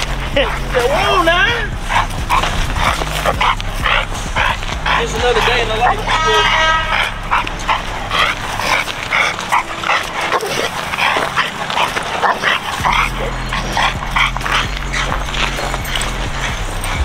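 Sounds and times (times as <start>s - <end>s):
dog yipping and whining: 0.2s - 17.0s.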